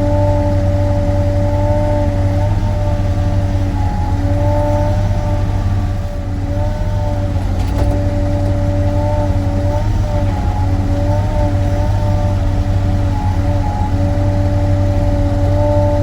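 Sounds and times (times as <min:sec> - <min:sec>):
excavator diesel engine running: 0:00.0 - 0:16.0
hydraulic whine: 0:00.0 - 0:16.0.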